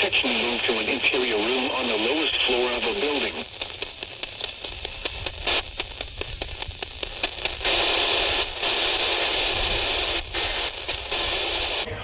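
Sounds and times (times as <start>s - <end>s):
crackling radio clicks: 0.0s - 12.0s
loud static hiss: 0.0s - 12.0s.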